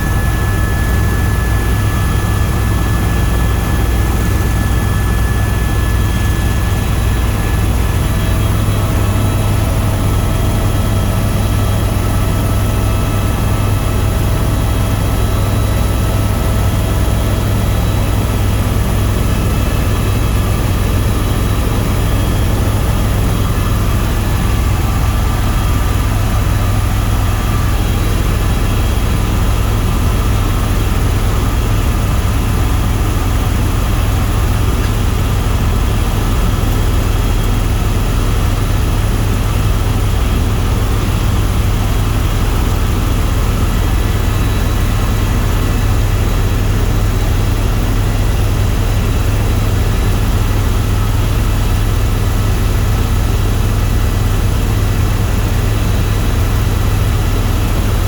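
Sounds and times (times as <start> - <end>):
helicopter rotor drone: 0.0 - 58.0
turbine whine: 0.0 - 58.0.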